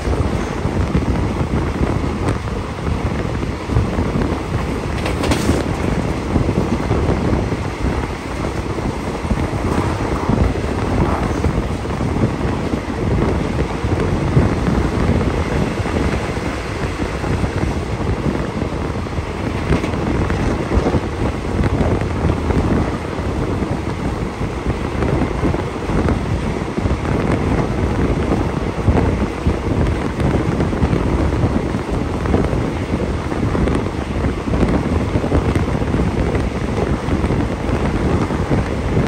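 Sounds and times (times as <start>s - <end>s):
train carriage rumbling on rails: 0.0s - 39.0s
wind buffeting microphone: 0.0s - 39.0s
wind rushing past train window: 0.0s - 39.0s.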